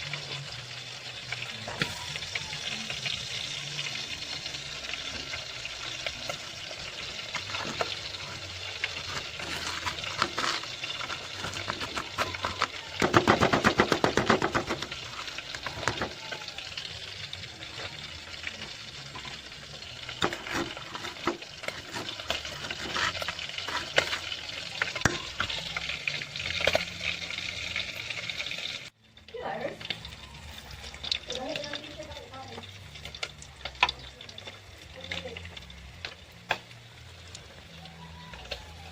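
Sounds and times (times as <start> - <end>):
dough deep-frying in oil: 0.0 - 38.9.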